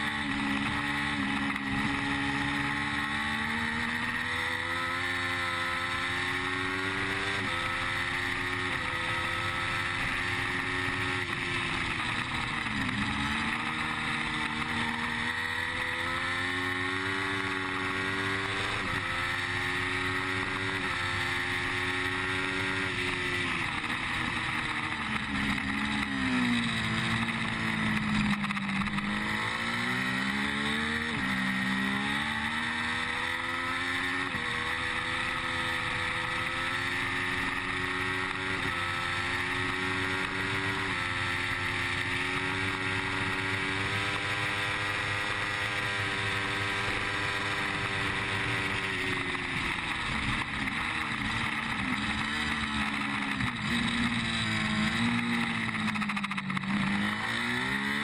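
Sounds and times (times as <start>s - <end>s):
motorcycle engine at racing speed: 0.0s - 58.0s.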